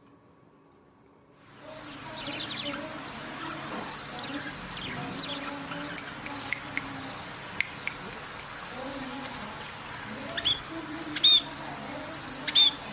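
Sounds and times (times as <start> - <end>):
songbird chirping: 1.4 - 12.9.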